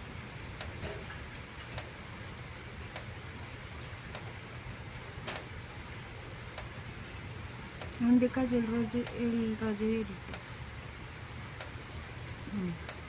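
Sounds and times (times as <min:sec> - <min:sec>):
raindrops ticking: 0:00.0 - 0:13.0.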